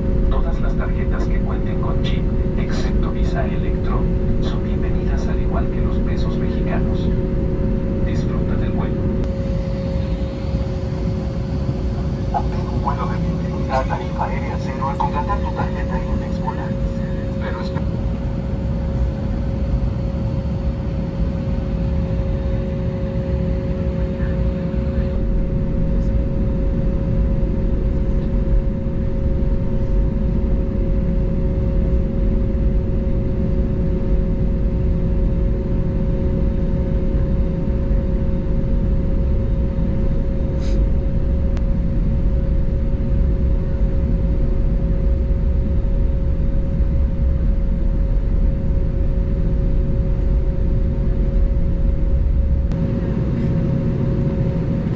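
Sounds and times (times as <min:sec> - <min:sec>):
airplane cabin engine rumble: 0:00.0 - 0:54.9
steady hum: 0:00.0 - 0:54.9.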